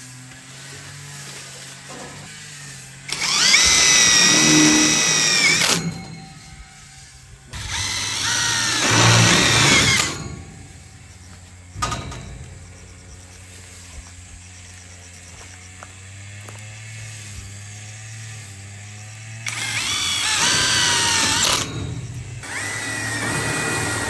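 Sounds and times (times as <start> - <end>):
electric drill whining: 0.0 - 24.0.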